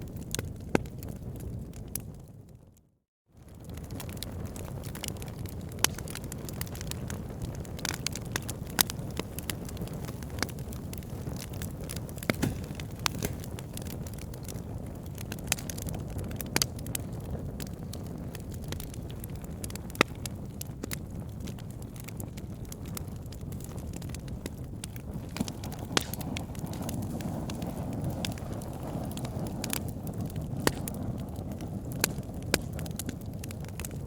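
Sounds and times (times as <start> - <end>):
loud fire pops: 3.4 - 34.0
wood fire crackling: 3.4 - 34.0.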